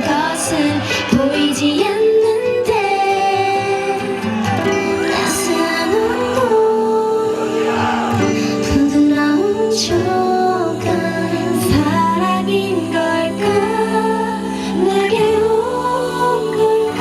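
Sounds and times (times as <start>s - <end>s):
female voices singing pop song: 0.0s - 17.0s.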